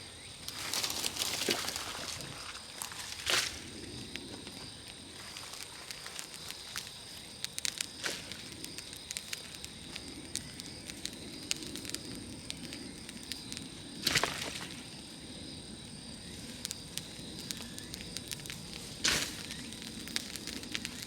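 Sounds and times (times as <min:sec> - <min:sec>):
bonfire burning and crackling: 0:00.0 - 0:21.0.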